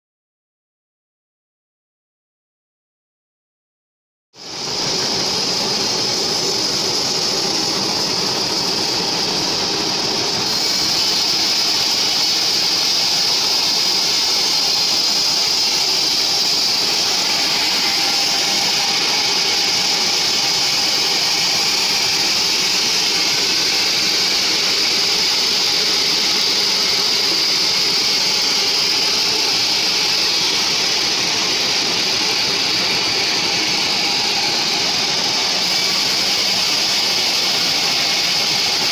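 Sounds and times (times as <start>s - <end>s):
saw blade whining through log: 4.5s - 38.9s.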